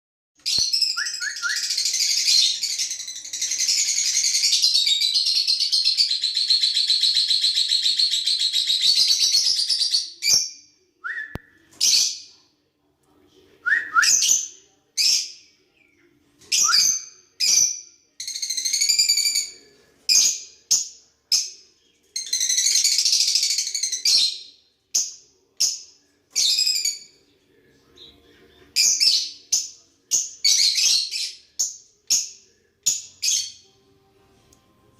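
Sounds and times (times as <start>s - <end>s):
birds chirping and twittering: 0.4s - 10.6s, 14.2s - 33.8s.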